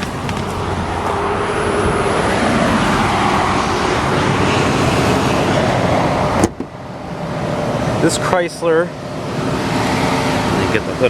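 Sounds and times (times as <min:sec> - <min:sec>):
aircraft passing overhead: 0:00.1 - 0:11.0.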